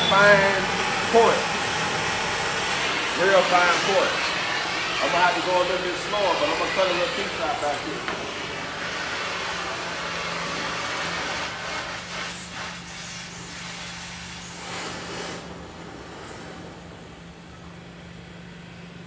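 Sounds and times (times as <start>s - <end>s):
cutting torch flame hissing: 0.0s - 17.0s.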